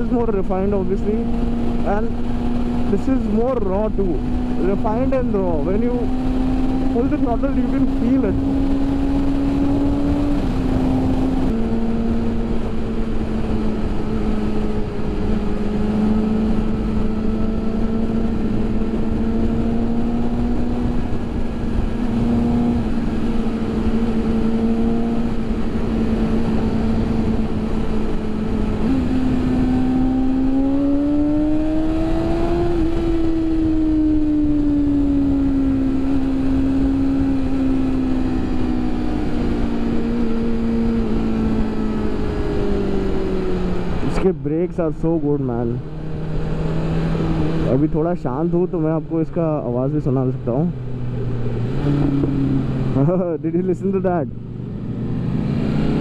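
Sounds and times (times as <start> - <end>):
wind noise: 0.0 - 45.1
motorcycle engine revving: 0.0 - 56.0.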